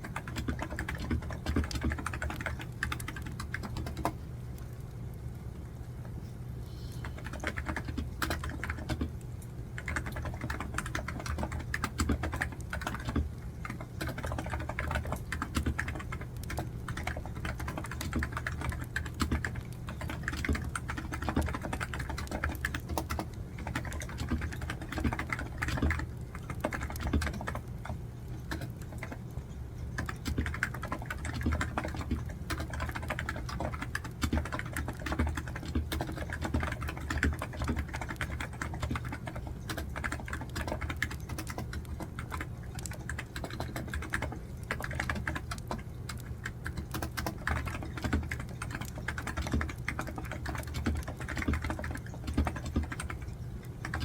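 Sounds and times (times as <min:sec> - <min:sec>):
computer keyboard typing: 0:00.0 - 0:04.7, 0:07.0 - 0:09.2, 0:09.8 - 0:54.0.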